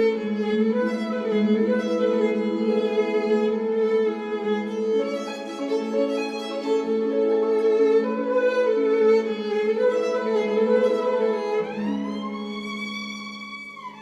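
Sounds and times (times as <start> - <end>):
violin music: 0.0 - 14.0.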